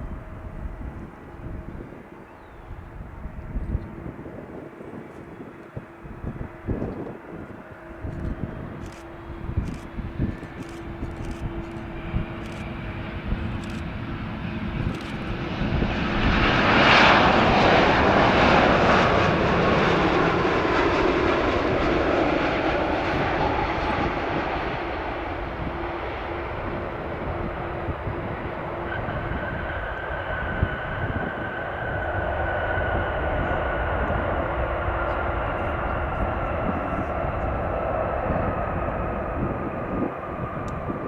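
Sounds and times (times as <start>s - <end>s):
jet engines rushing past: 0.0s - 41.0s.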